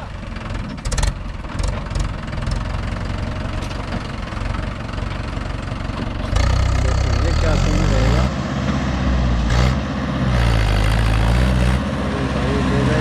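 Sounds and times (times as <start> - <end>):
tractor diesel engine chugging: 0.0 - 11.2.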